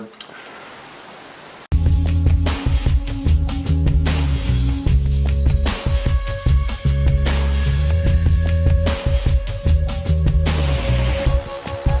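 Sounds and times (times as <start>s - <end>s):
rock music: 1.7s - 12.0s.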